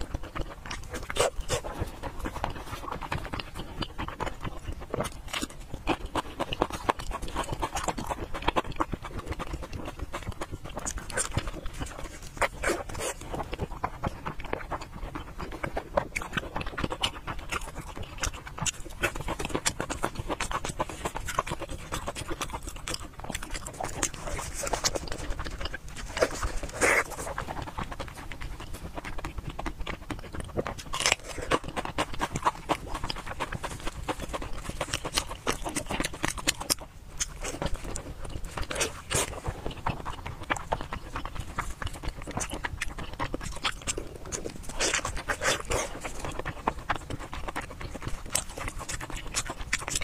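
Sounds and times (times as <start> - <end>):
wet chewing and lip-smacking: 0.0 - 50.0.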